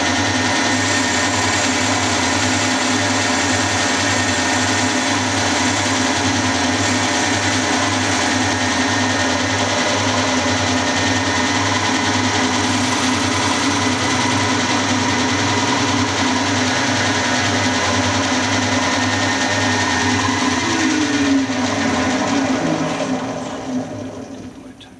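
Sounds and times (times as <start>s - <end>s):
milling machine whine: 0.0s - 24.9s
falling machine tone: 1.8s - 24.8s.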